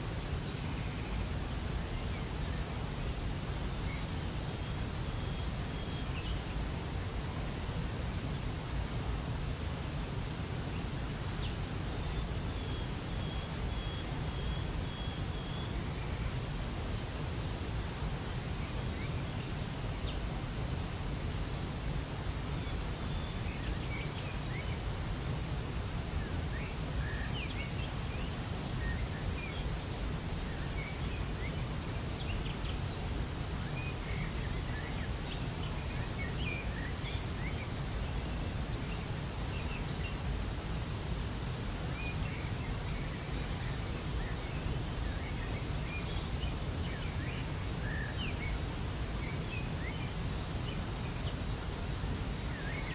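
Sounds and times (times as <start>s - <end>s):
small birds chirping: 0.1s - 52.9s.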